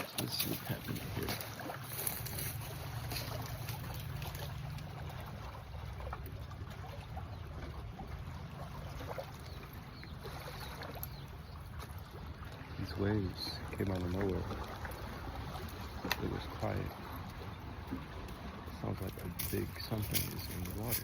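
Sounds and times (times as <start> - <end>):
faint splashes: 0.0 - 21.0
waves lapping against shore: 0.0 - 21.0.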